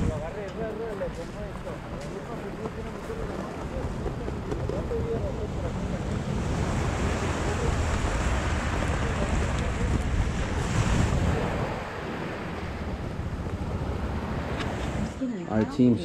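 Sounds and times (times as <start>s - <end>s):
wind buffeting microphone: 0.0s - 15.2s
ocean surf: 0.0s - 16.0s.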